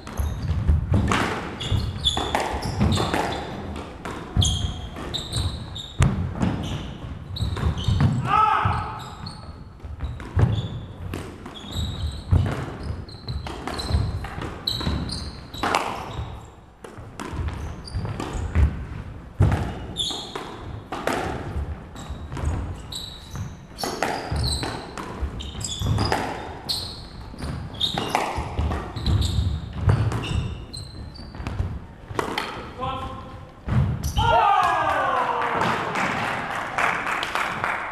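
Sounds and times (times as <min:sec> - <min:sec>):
squash ball struck by rackets: 0:00.0 - 0:09.0, 0:09.8 - 0:22.7, 0:23.3 - 0:26.7, 0:27.3 - 0:32.8, 0:33.6 - 0:34.2
shoes squeaking on wooden floor: 0:00.0 - 0:34.4.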